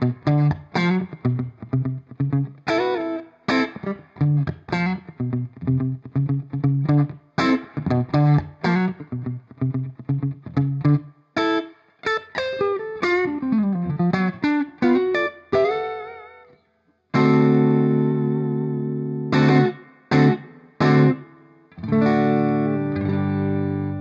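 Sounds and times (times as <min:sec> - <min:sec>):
electric guitar with tremolo: 0:00.0 - 0:24.0.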